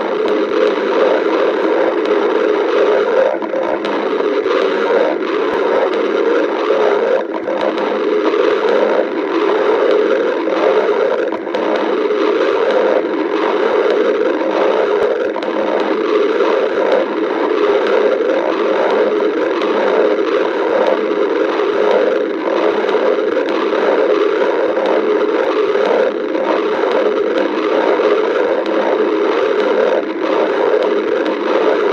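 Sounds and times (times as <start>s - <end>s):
stomach growling: 0.0s - 31.9s.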